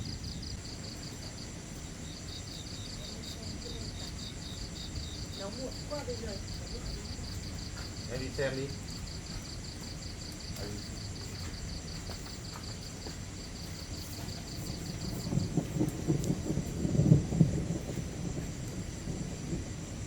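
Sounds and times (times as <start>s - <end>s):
thunder rumbling: 0.0s - 12.0s, 13.2s - 20.0s
insects chirping: 0.0s - 20.0s.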